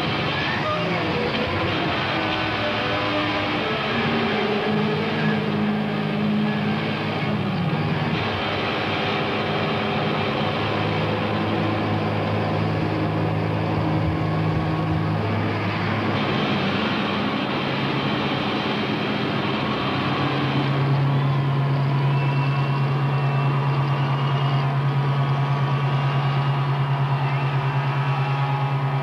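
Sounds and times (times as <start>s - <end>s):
bass droning: 0.0s - 29.0s
distorted electric guitar: 0.0s - 29.0s.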